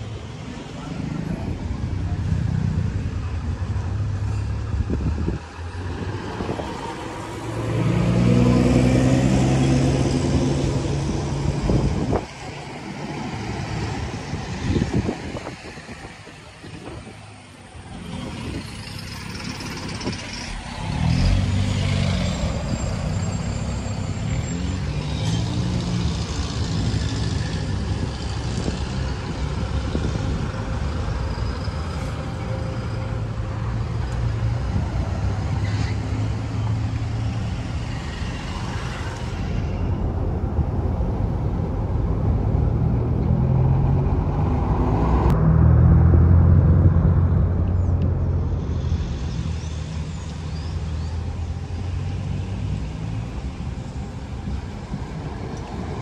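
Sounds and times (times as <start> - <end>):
buses driving past: 0.0 - 56.0.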